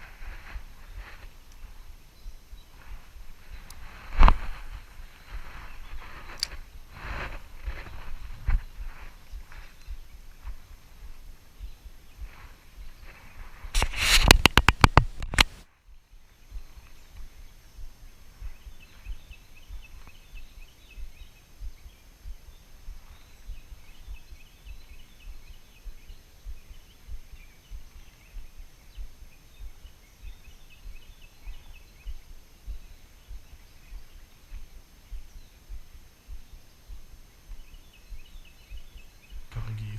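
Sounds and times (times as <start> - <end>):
low thumps on microphone: 0.1 - 31.0, 32.7 - 39.9.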